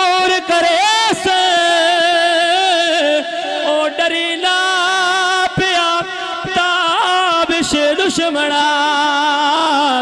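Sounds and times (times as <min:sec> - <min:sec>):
man singing into microphone: 0:00.0 - 0:10.0.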